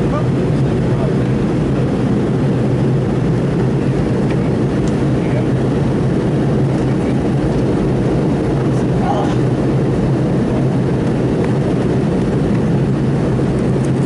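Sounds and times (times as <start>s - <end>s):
jet engine cabin noise: 0.0s - 14.0s.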